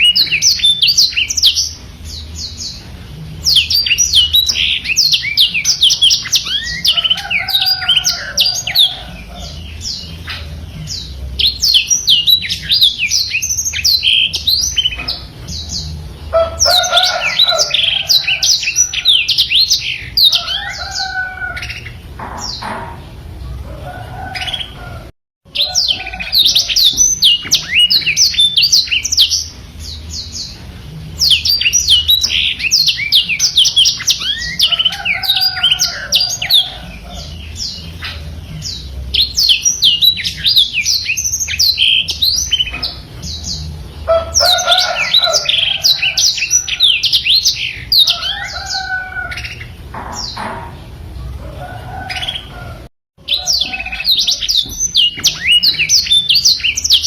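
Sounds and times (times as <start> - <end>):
canary singing rolling twitters: 0.0 - 57.0.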